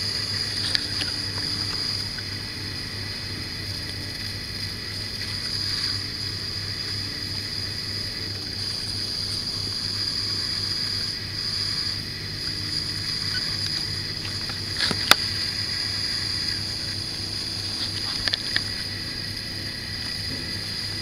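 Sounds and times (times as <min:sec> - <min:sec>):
low electrical hum: 0:00.0 - 0:21.0
thin high whine: 0:00.0 - 0:21.0.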